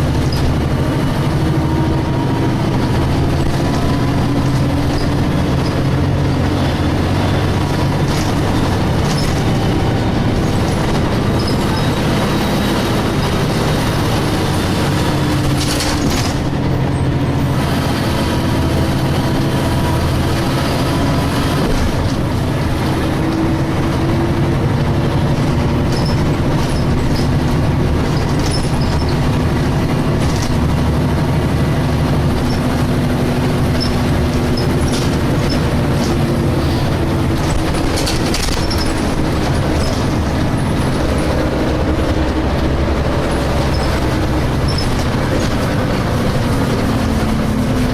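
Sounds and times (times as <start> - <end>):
bus diesel engine running: 0.0 - 47.9
road and body rumble: 0.0 - 47.9.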